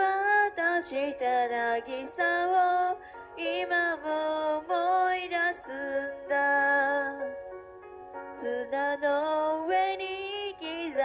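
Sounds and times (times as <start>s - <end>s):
woman singing karaoke: 0.0s - 7.3s, 8.4s - 11.0s
karaoke backing track: 0.0s - 11.0s.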